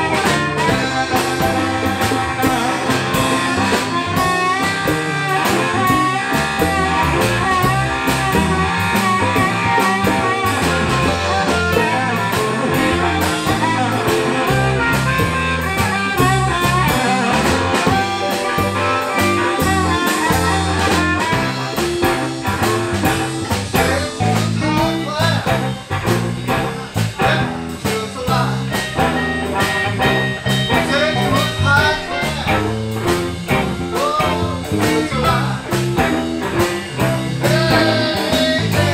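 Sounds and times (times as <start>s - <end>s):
blues band playing: 0.0s - 38.9s
harmonica wailing: 0.0s - 38.9s.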